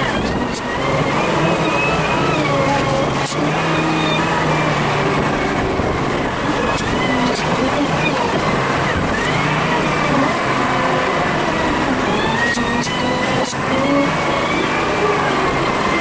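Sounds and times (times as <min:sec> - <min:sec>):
sped-up loader engine whining: 0:00.0 - 0:16.0.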